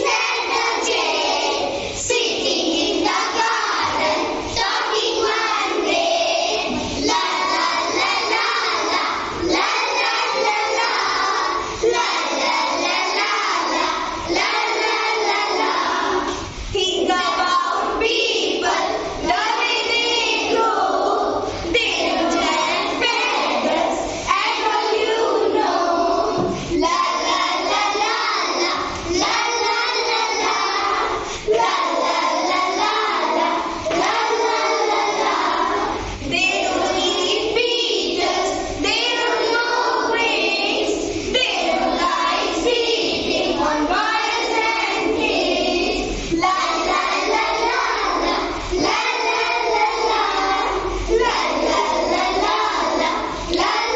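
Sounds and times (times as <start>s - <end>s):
children chanting in unison: 0.0s - 53.9s.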